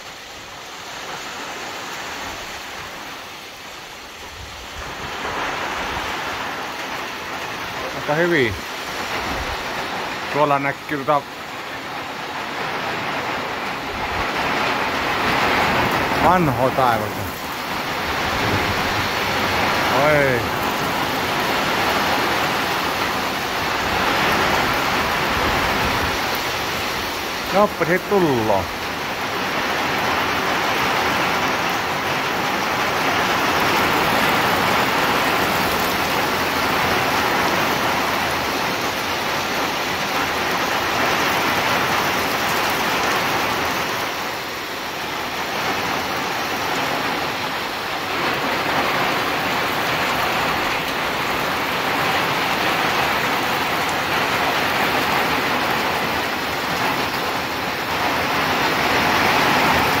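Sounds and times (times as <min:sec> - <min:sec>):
heavy rain pouring: 0:00.0 - 1:00.0.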